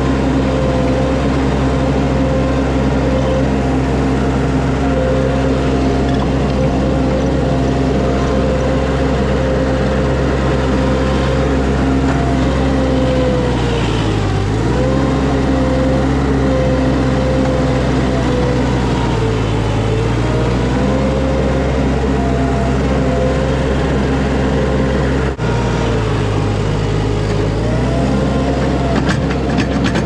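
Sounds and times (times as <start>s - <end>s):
skid steer engine revving: 0.0s - 30.0s.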